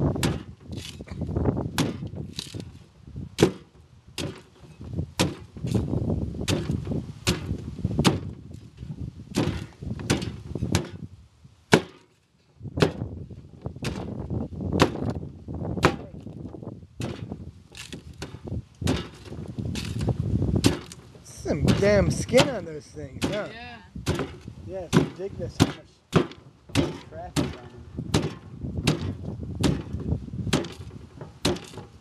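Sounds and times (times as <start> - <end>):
machete chopping coconut husk: 0.0 - 2.8, 3.4 - 11.0, 11.7 - 12.2, 12.8 - 13.1, 13.8 - 15.2, 15.8 - 16.4, 17.0 - 32.0.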